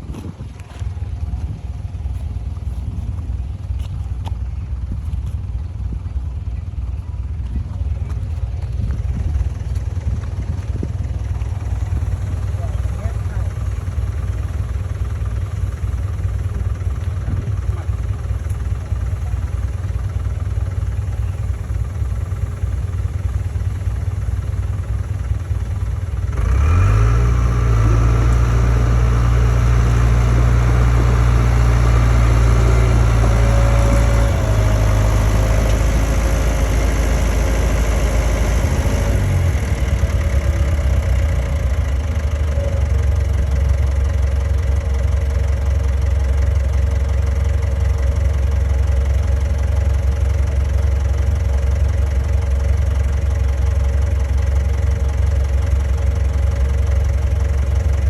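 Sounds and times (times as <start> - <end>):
bulldozer diesel engine revving: 11.4 - 58.0.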